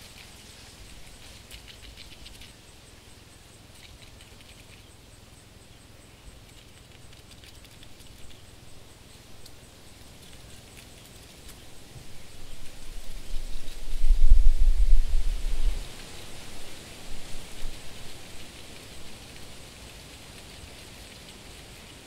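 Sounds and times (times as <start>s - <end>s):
soft steady hiss: 0.0s - 22.0s.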